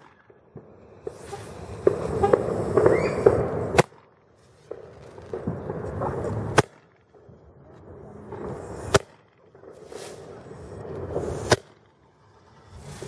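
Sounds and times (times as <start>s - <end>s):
rocket engine hissing burn: 0.0s - 6.6s, 7.8s - 13.0s
sharp crack: 0.0s - 13.0s.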